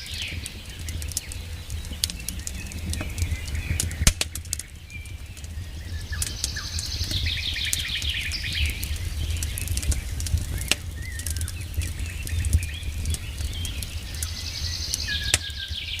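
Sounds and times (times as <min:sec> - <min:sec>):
birds chirping: 0:00.0 - 0:16.0
campfire crackling: 0:00.0 - 0:16.0.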